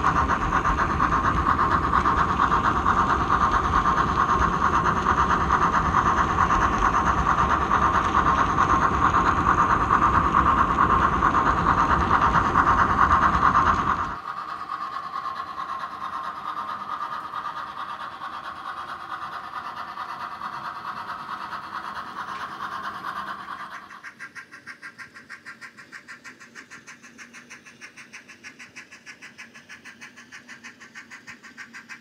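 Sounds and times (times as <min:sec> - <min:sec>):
model steam locomotive running: 0:00.0 - 0:32.0.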